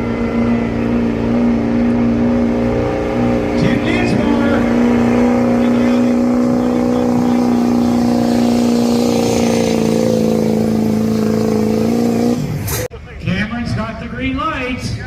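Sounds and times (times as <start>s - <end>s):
diesel truck engine revving: 0.0s - 12.9s.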